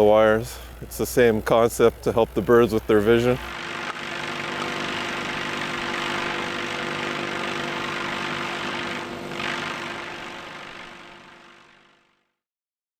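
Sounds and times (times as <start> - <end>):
drone propellers buzzing: 0.0 - 12.2.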